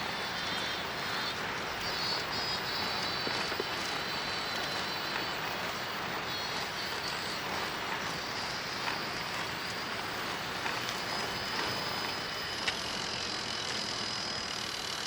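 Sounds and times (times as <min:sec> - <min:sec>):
tyre and wind noise: 0:00.0 - 0:12.9
faint high whine: 0:00.0 - 0:15.0.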